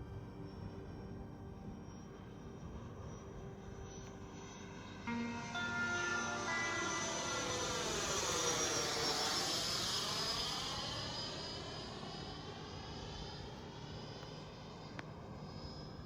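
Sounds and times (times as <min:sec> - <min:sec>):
rc jet fan whine passing overhead: 0:00.0 - 0:16.0.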